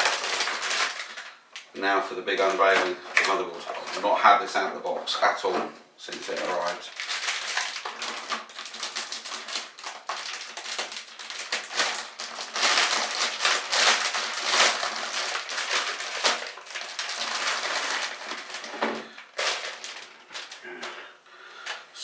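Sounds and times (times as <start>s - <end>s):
plastic bag crinkling: 0.0s - 4.6s, 6.1s - 21.0s.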